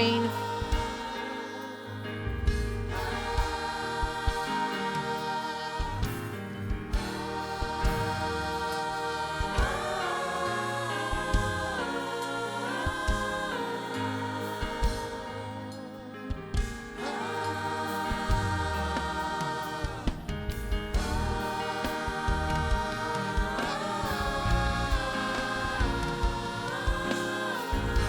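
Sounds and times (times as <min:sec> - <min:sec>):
choir singing: 0:00.0 - 0:28.0
drums: 0:00.0 - 0:28.0
keyboard: 0:00.0 - 0:28.0.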